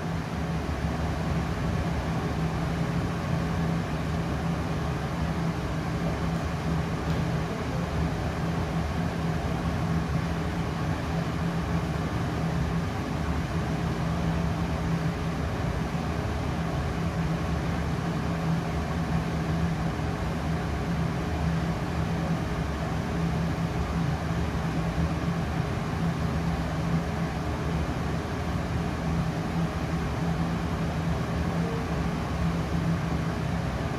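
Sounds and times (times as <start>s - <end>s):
laser cutter machine hum: 0.0s - 33.9s.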